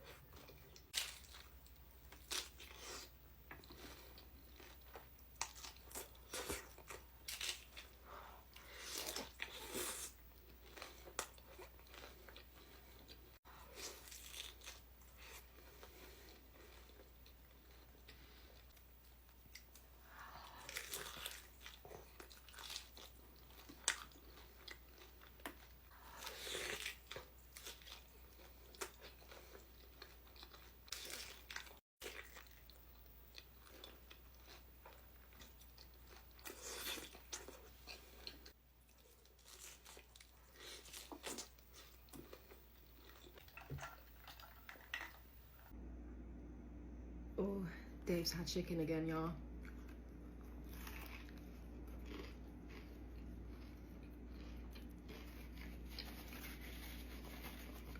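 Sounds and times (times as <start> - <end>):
person chewing crunchy food: 0.0 - 45.8, 49.6 - 57.9.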